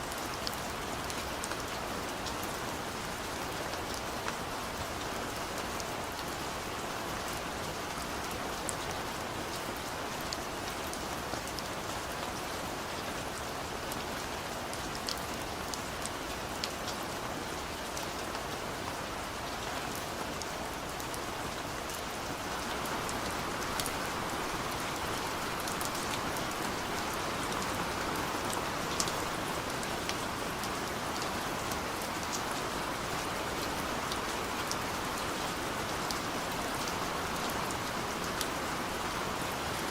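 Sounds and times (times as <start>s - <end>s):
heavy rain falling: 0.0s - 39.9s
raindrops ticking on a surface: 0.1s - 39.9s.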